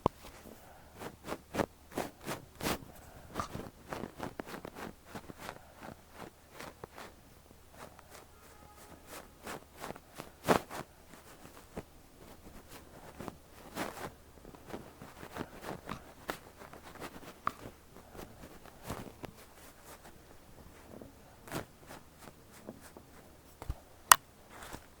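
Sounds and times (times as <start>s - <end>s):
duster rustling on microphone: 0.0s - 25.0s.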